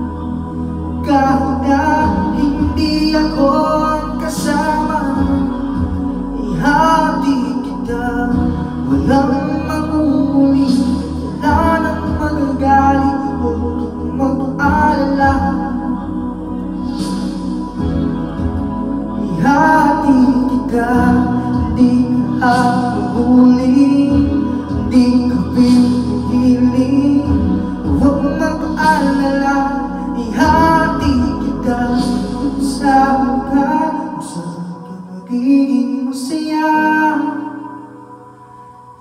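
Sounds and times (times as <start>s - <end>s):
man singing into microphone: 0.0s - 38.0s
backing track: 0.0s - 39.0s.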